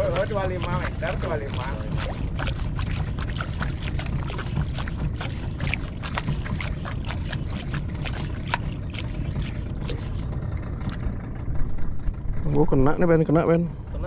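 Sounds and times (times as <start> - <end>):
water slapping against boat hull: 0.0 - 12.6
steady low rumble: 0.0 - 14.0.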